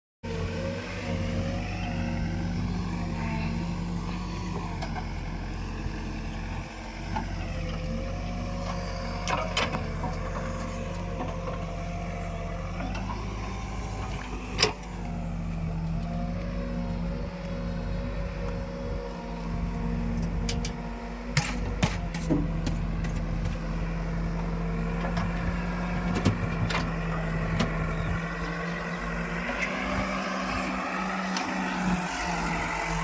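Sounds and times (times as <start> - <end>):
diesel engine running: 0.2 - 33.0.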